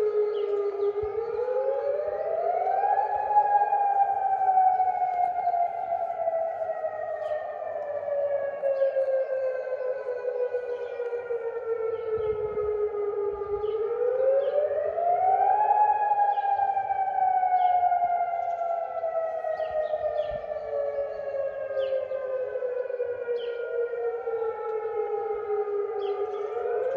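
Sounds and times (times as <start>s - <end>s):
siren wailing: 0.0s - 26.9s.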